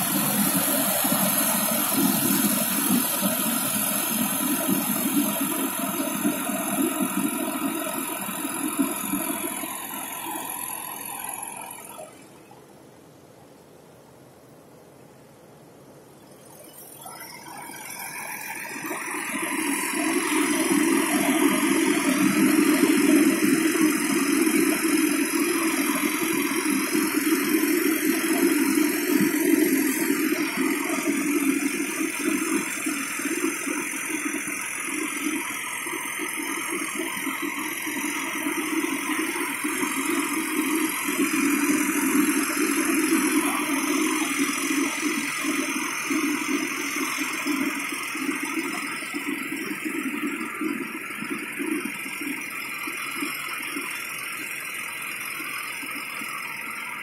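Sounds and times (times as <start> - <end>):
tractor diesel engine running: 0.0 - 13.3, 16.4 - 57.0.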